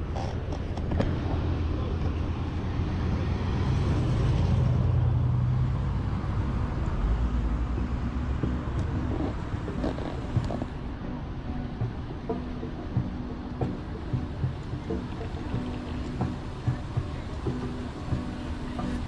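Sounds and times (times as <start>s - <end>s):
steady road noise: 0.0s - 19.0s
vehicle engine running: 0.0s - 19.0s.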